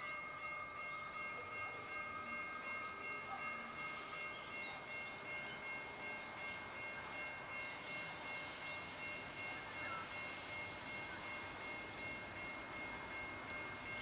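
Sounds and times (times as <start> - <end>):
distant freight train rumble: 0.0 - 14.0
high ringing tones: 0.0 - 14.0.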